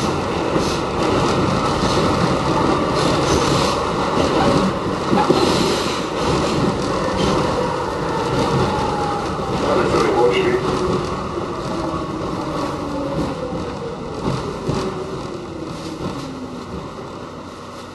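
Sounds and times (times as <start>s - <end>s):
subway car wheels roaring on rail: 0.0s - 17.9s.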